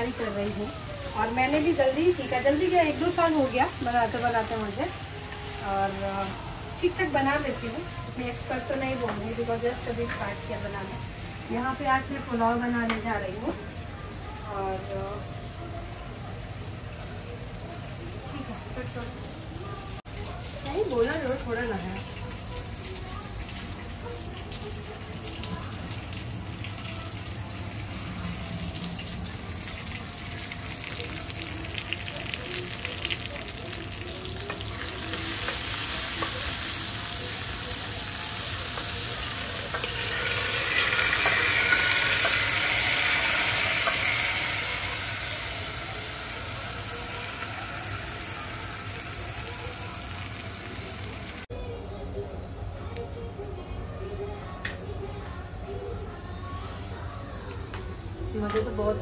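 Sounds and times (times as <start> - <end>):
food sizzling in oil: 0.0 - 51.8.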